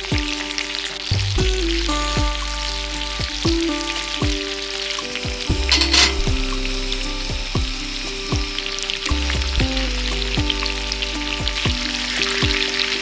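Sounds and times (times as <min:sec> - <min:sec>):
crackling hiss: 0:00.0 - 0:13.0
music with kick drum and bass: 0:00.0 - 0:13.0.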